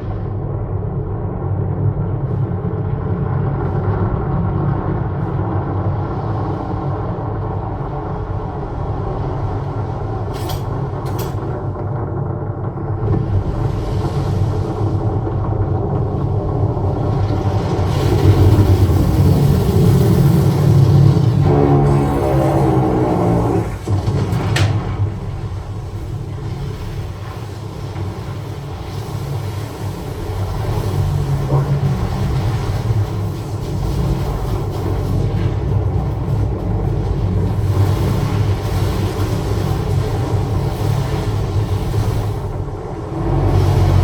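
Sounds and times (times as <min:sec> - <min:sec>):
deep bass rumble: 0:00.0 - 0:44.0.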